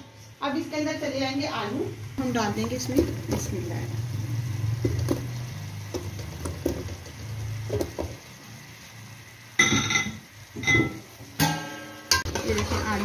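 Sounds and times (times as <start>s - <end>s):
light sizzle: 0.0s - 13.0s.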